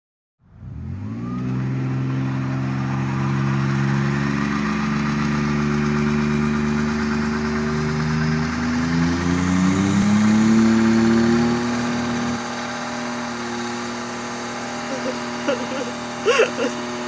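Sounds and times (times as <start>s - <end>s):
engine at high revs: 0.4s - 17.0s
spinning tyres hissing: 0.5s - 17.0s.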